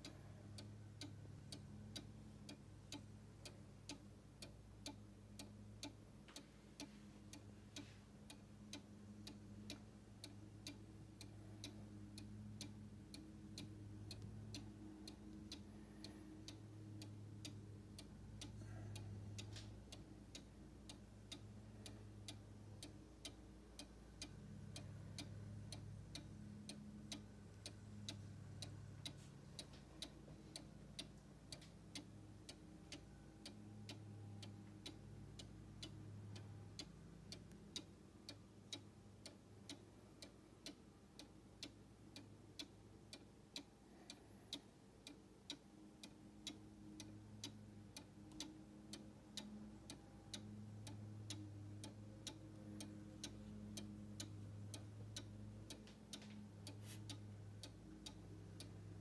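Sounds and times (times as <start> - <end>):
clock ticking faintly: 0.0 - 59.0.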